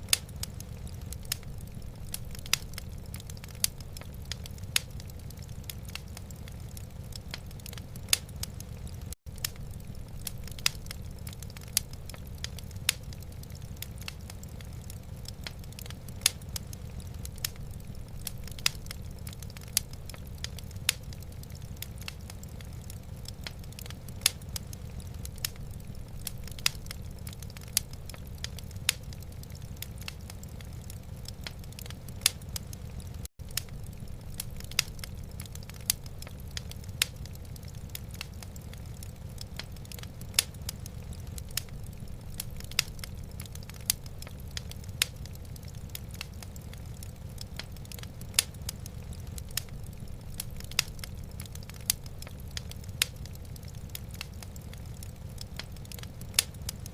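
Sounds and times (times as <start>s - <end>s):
low fire rumble: 0.0s - 56.9s
wood fire crackling and popping: 0.0s - 56.9s.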